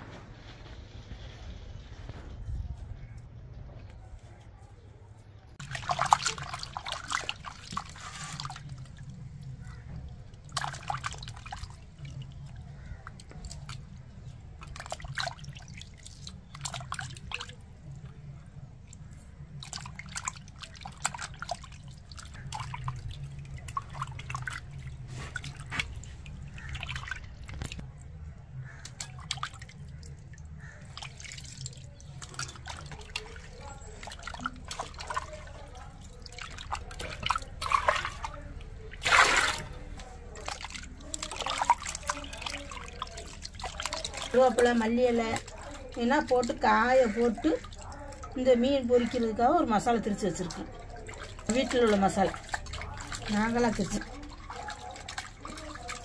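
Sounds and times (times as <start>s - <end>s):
fish washed in water splashing: 5.6s - 56.0s.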